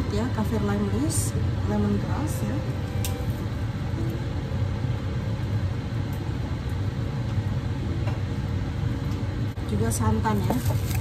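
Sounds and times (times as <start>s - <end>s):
water boiling on stove: 0.0s - 11.0s.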